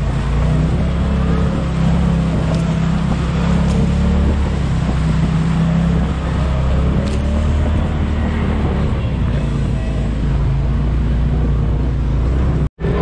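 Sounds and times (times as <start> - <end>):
road noise: 0.0 - 13.0
vehicle engine drone: 0.0 - 13.0.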